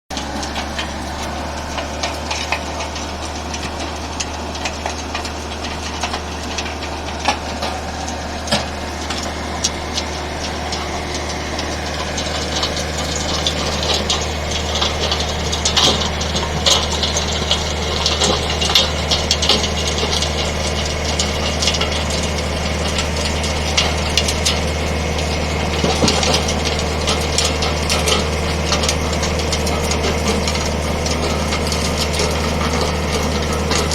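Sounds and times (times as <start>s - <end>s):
skid steer engine running: 0.1s - 33.9s
clicks and rattles: 0.2s - 33.9s.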